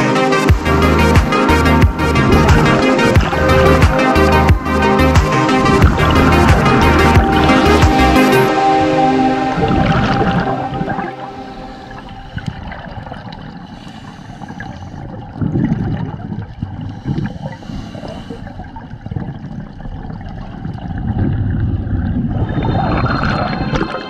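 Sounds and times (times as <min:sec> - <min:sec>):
underwater exhaled bubbles gurgling: 0:01.9 - 0:24.0.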